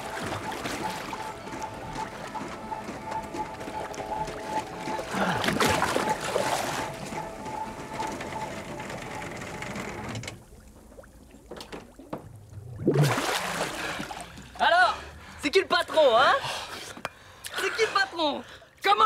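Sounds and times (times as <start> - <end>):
pool water splashing: 0.0 - 9.4, 10.4 - 17.6.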